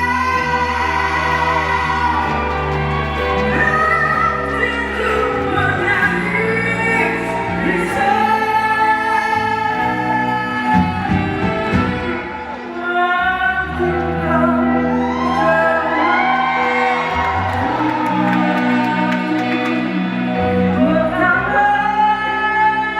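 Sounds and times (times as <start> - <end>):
steady bass line: 0.0 - 12.5, 13.2 - 22.9
person singing with vibrato: 0.0 - 22.9
pop band accompaniment: 0.0 - 22.9.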